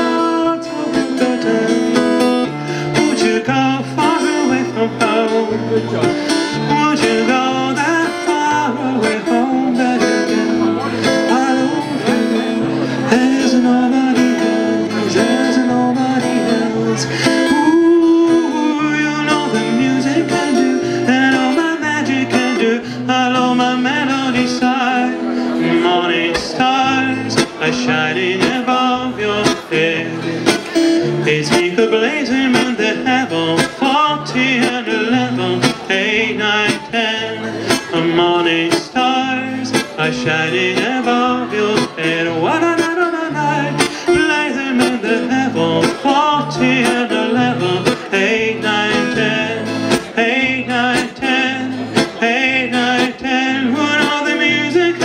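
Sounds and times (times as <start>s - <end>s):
acoustic guitar strumming: 0.0s - 55.0s
man singing: 0.0s - 55.0s.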